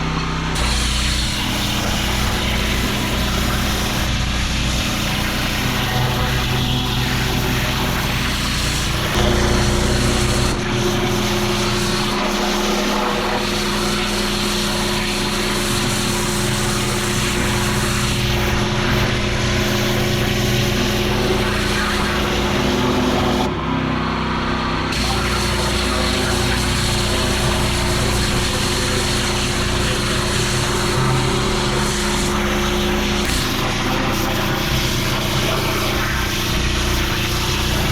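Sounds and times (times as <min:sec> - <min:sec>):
pressure washer engine running: 0:00.0 - 0:37.9
high-pressure water spraying on paving: 0:00.6 - 0:23.5, 0:25.0 - 0:37.9.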